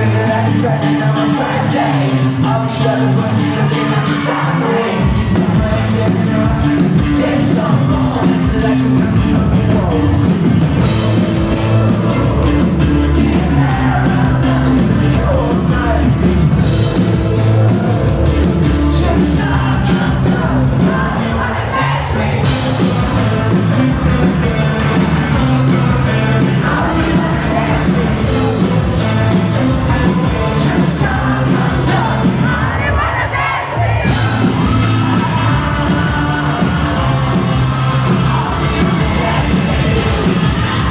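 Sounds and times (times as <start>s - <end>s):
live rock band: 0.0s - 40.9s
person singing: 0.0s - 40.9s.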